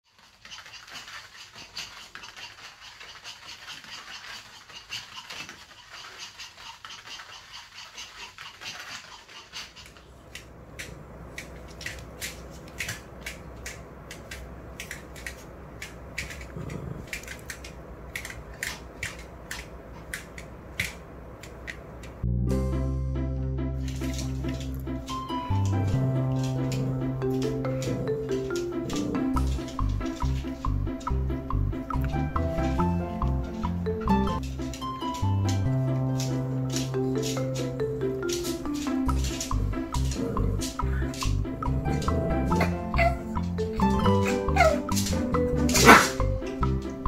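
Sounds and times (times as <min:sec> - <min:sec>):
dog claws clicking on floor: 0:00.1 - 0:22.2, 0:23.8 - 0:33.6, 0:34.2 - 0:47.0.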